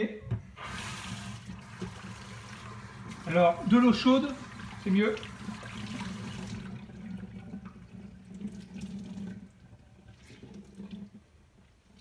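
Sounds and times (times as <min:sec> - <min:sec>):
water running from tap: 0:00.6 - 0:11.2.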